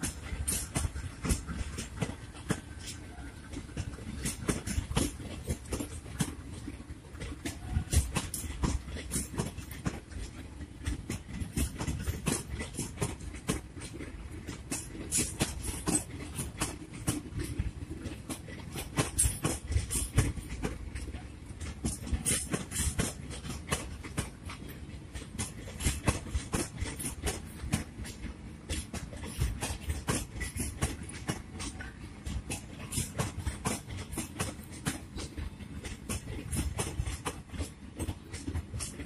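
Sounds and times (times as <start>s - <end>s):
train rumble: 0.0s - 39.0s
train wheels clacking over rail joints: 0.0s - 39.0s.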